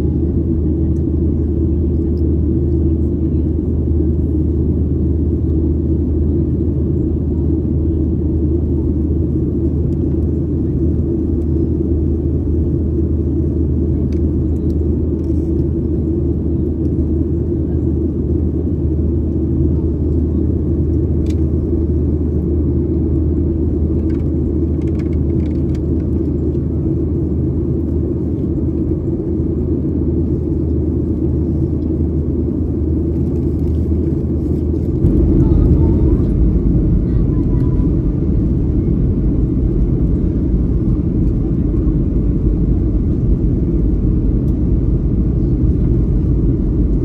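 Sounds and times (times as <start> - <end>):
jet cabin engine rumble: 0.0 - 47.0.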